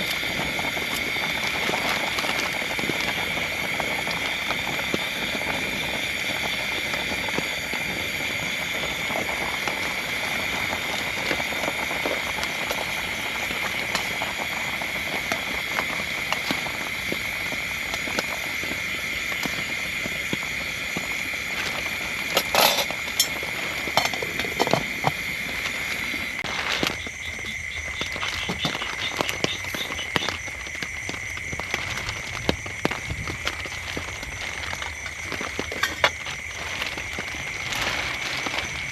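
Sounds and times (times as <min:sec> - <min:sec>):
frogs calling: 0:00.0 - 0:38.9
rain falling: 0:00.0 - 0:38.9.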